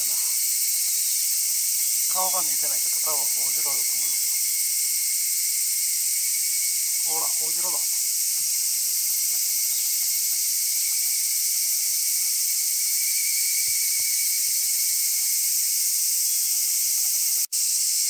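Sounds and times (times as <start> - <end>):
cicadas singing: 0.0 - 18.0
insects chorus: 0.0 - 18.0.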